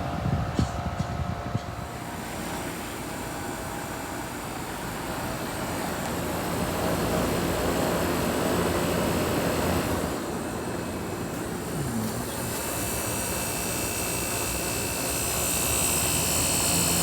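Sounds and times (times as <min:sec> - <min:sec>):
air conditioner fan rushing: 0:00.0 - 0:17.0.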